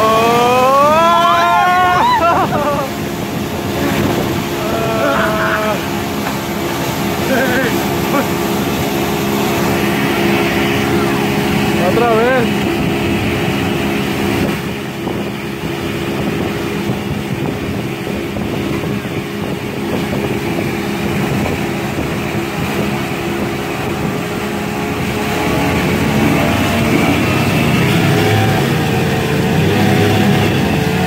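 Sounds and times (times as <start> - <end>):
outboard motor running: 0.0 - 31.0
water rushing of wake: 0.0 - 31.0
wind: 0.0 - 31.0.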